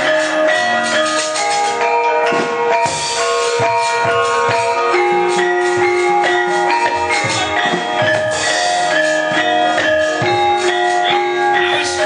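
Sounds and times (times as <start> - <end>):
drum strokes: 0.0 - 12.0
metallophone and gong-chime melody: 0.0 - 12.0
sharp percussive knocks: 0.0 - 12.0.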